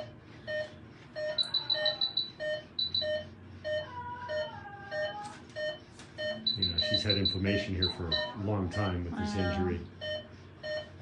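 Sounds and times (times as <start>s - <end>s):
patient monitor beeping: 0.0s - 11.0s.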